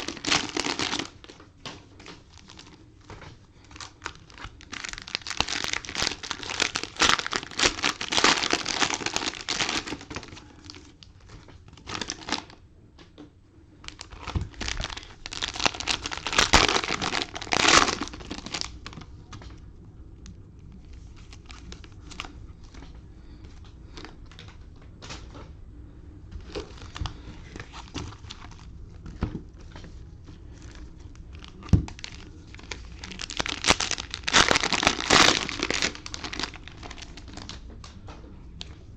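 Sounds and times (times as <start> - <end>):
plastic wrapping crinkling and tearing: 0.0 - 12.6, 13.8 - 19.6, 20.8 - 22.9, 26.4 - 37.7.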